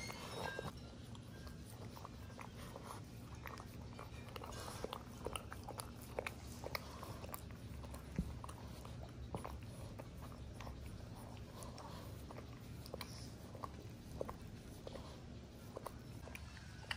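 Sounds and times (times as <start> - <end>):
dog gnawing and crunching chew: 0.0 - 16.9.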